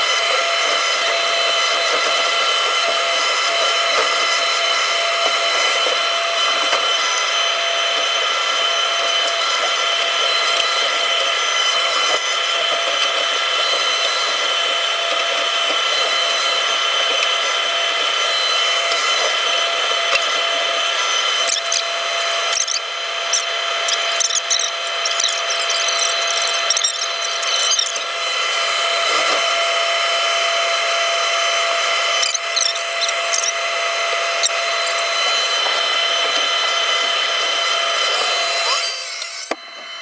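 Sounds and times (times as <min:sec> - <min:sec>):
excavator engine whining: 0:05.3 - 0:39.9.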